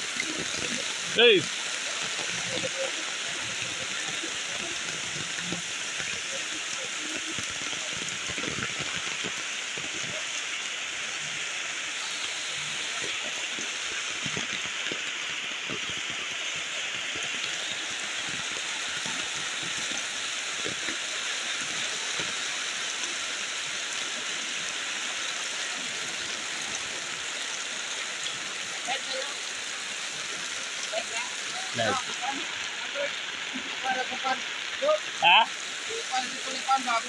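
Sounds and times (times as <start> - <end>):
flooded river rushing: 0.0 - 37.0
rain falling: 0.0 - 37.0
raindrops ticking on surfaces: 0.0 - 37.0.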